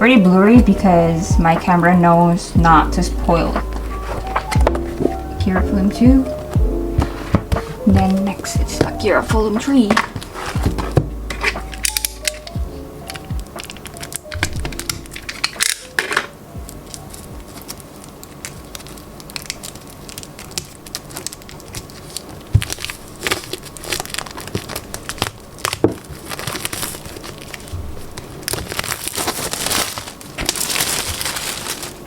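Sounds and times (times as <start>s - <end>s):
plastic wrapping crinkling and tearing: 3.4s - 6.0s, 7.0s - 32.0s.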